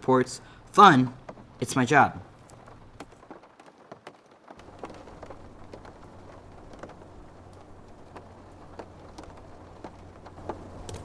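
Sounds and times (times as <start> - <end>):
raindrops ticking: 0.0 - 11.0.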